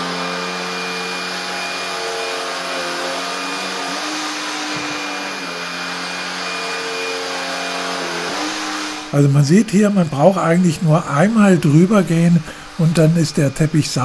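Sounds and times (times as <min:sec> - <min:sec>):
vacuum cleaner on carpet: 0:00.0 - 0:14.0.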